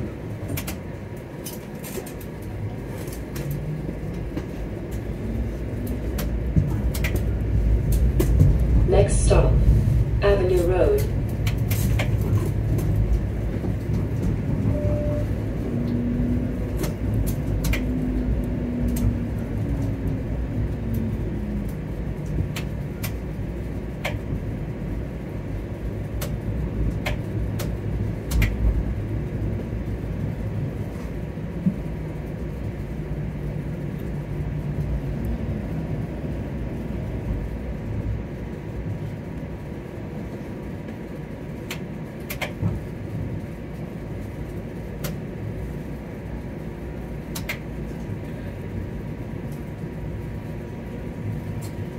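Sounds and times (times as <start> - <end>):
streetcar rumbling on tracks: 0.0 - 51.9.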